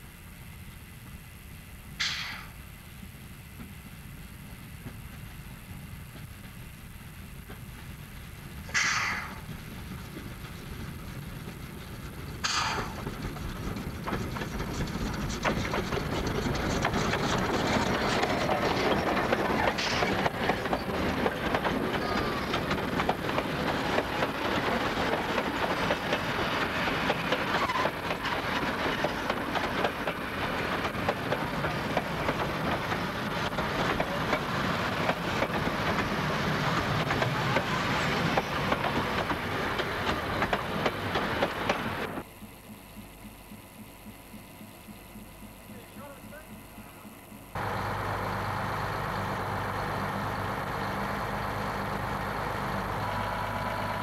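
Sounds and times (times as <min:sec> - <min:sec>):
train wheels clicking over rail joints: 0:02.0 - 0:02.6, 0:03.6 - 0:47.8.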